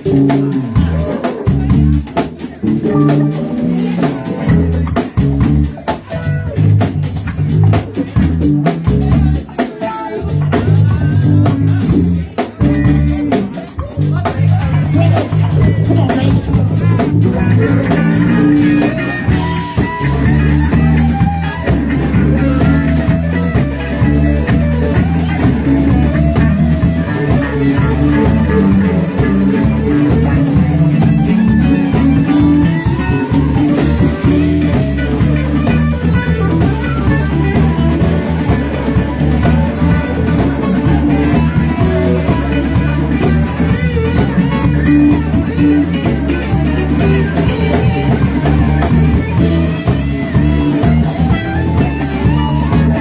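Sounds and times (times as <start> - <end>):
bass guitar: 0.0 - 53.0
drum kit: 0.0 - 53.0
electric guitar: 0.0 - 53.0.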